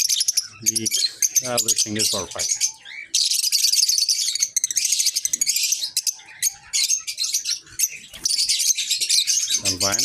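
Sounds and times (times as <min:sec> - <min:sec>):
lovebirds chirping shrilly: 0:00.0 - 0:10.0.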